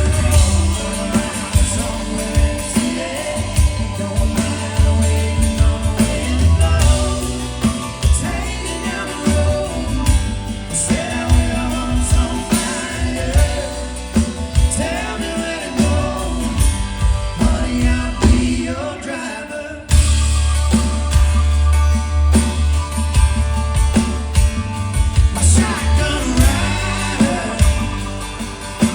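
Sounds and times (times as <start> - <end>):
heavy bass: 0.0 - 19.0, 19.9 - 28.9
person singing: 0.0 - 20.0, 25.2 - 28.9
live rock band: 0.0 - 28.9.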